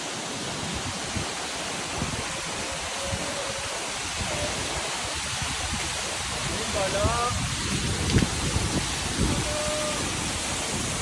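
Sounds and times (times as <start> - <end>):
rushing water: 0.0 - 11.0
wind buffeting microphone: 0.6 - 11.0.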